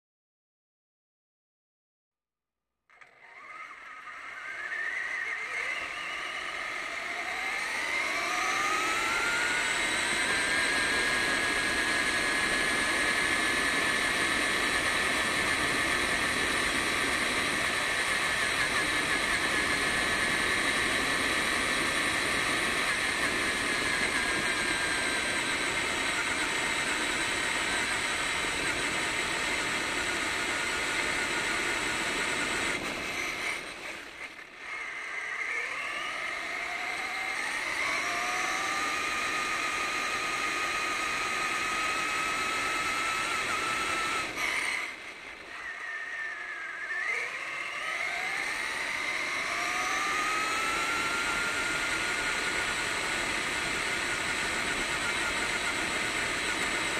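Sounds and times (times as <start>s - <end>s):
toy truck motor whine: 2.9s - 56.9s.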